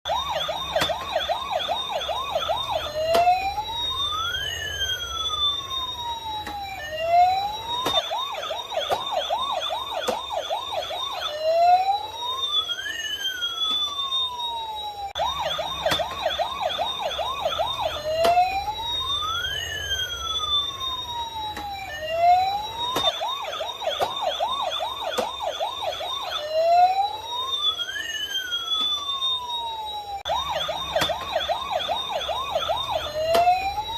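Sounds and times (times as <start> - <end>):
toy ambulance electronic siren: 0.0 - 33.9.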